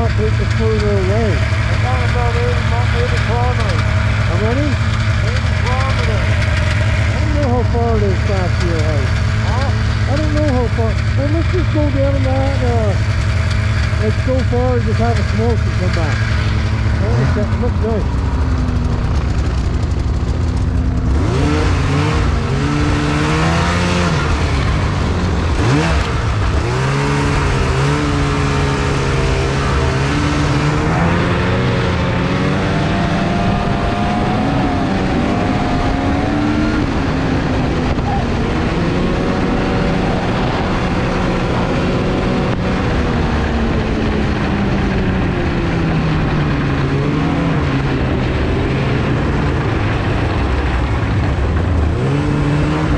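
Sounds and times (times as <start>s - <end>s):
snowmobile engine accelerating: 0.0s - 52.9s.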